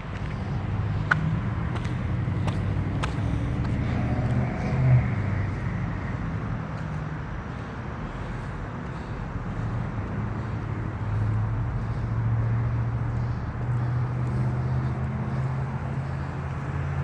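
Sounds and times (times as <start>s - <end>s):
low traffic rumble: 0.0s - 17.0s
vehicle engine passing: 0.0s - 17.0s.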